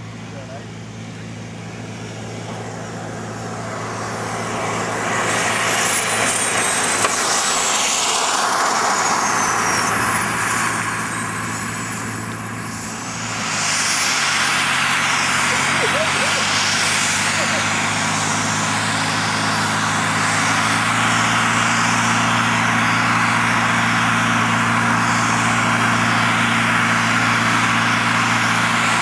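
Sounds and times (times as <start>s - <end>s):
jet engine whining and rushing: 0.0s - 29.0s.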